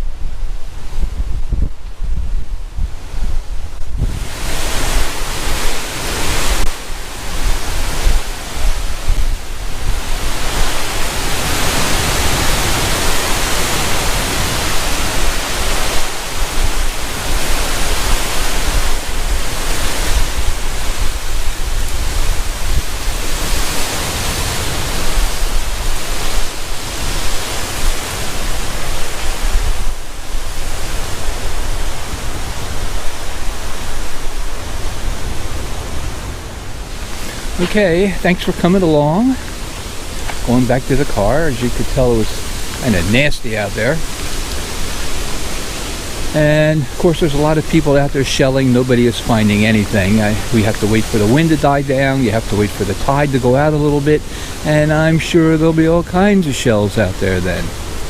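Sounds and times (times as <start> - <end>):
rough surf: 0.0 - 58.0
storm wind buffeting microphone: 0.0 - 58.0.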